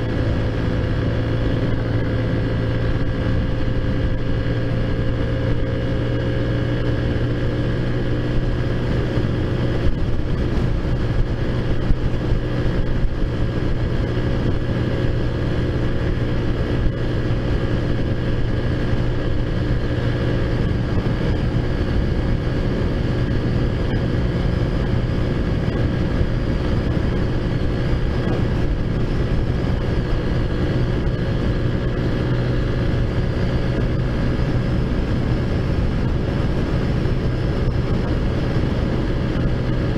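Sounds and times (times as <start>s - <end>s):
scooter engine running: 0.0s - 39.9s
wind rumble on microphone: 0.0s - 39.9s.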